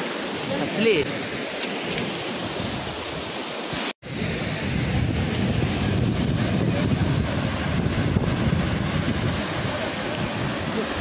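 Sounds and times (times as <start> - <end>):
waterfall roaring: 0.0 - 11.0
wind on microphone: 1.0 - 11.0.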